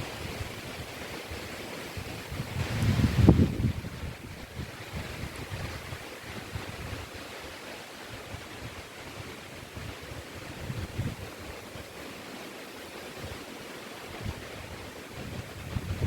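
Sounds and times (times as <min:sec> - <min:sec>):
wind buffeting microphone: 0:00.0 - 0:07.5, 0:08.1 - 0:11.9, 0:14.1 - 0:16.0
wind through trees: 0:00.0 - 0:16.0.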